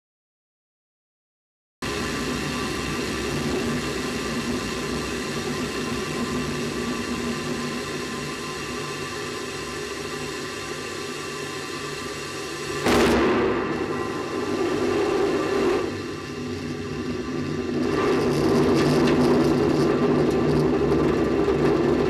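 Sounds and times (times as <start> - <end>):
whir and hiss: 1.8 - 22.0
steady hums: 1.9 - 22.0.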